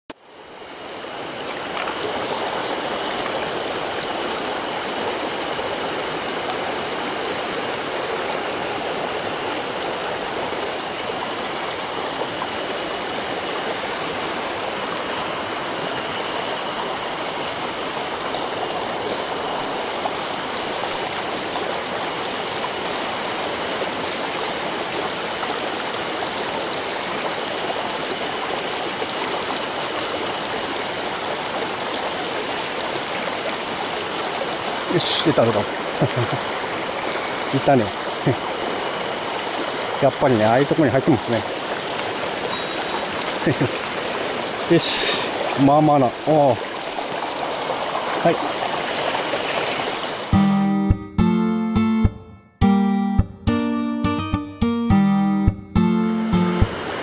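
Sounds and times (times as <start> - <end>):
stream rushing over rocks: 0.2 - 51.2, 54.0 - 57.0.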